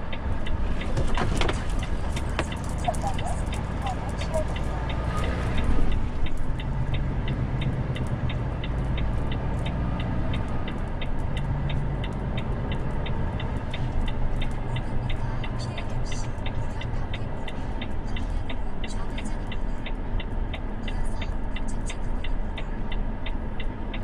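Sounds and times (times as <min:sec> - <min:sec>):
truck engine drone: 0:00.0 - 0:24.0
turn signal indicator ticking: 0:00.0 - 0:24.0.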